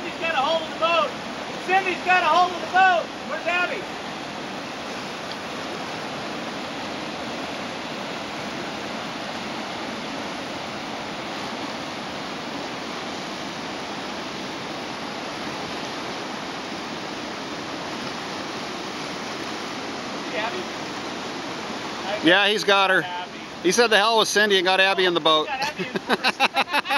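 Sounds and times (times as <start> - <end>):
rushing river rapids: 0.0 - 26.9.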